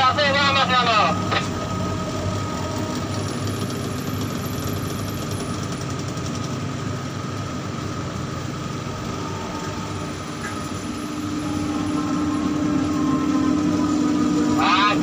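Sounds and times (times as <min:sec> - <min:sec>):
crane machinery humming: 0:00.0 - 0:15.0.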